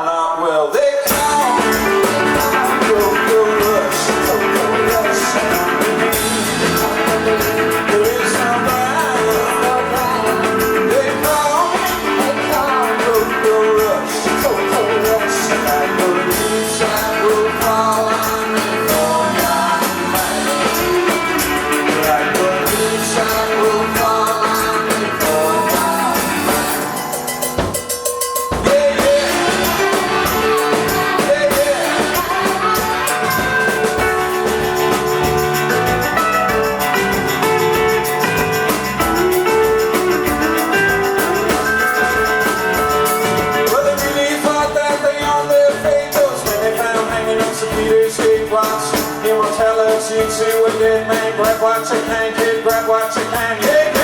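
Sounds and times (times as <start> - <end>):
drum kit: 1.0 - 54.0
live rock band playing: 1.0 - 54.0.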